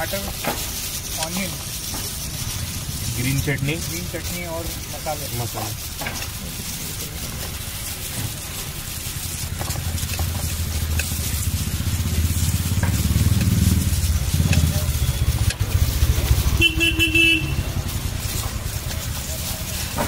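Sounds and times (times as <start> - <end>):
street noise hiss: 0.0 - 20.0
vehicle engine rumbling: 0.0 - 20.0.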